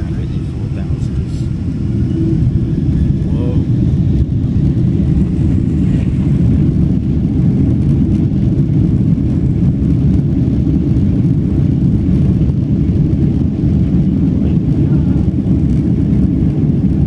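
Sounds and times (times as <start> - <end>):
airliner rumbling on runway: 0.0 - 17.0
jet engines heard from cabin: 0.0 - 17.0.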